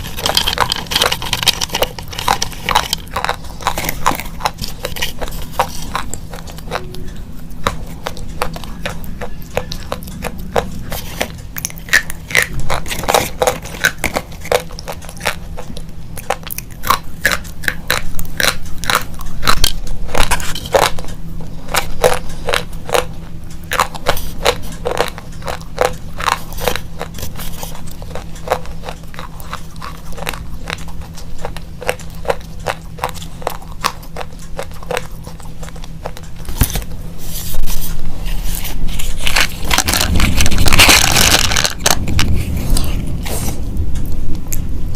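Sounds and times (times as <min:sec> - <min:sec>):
crunching and snapping while chewing: 0:00.0 - 0:44.7
faint low hum: 0:00.0 - 0:44.9.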